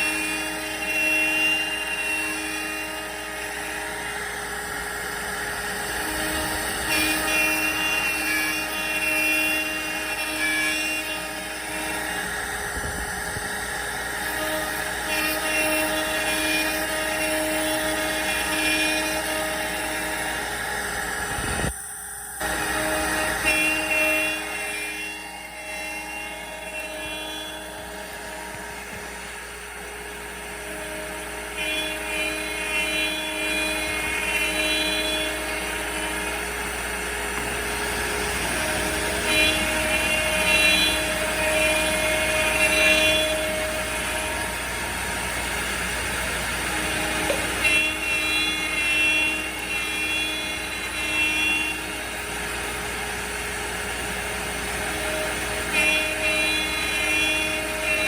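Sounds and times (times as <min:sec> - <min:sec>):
router spindle whirring: 0:00.0 - 0:58.0
stepper motors whining: 0:00.0 - 0:58.0.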